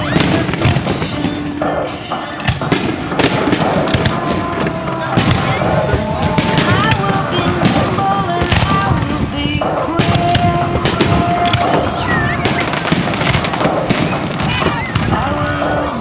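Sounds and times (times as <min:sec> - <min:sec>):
firework bangs and crackling: 0:00.0 - 0:16.0.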